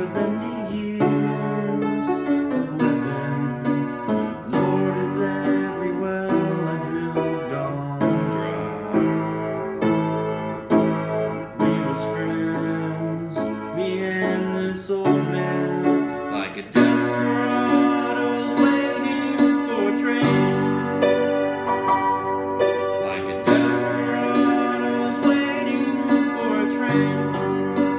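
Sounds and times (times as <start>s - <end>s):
piano chords and melody: 0.0s - 27.9s.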